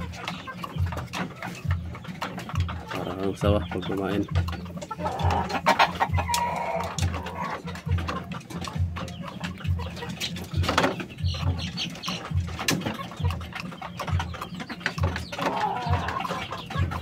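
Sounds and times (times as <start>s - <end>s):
rooster clucking: 0.0s - 17.0s.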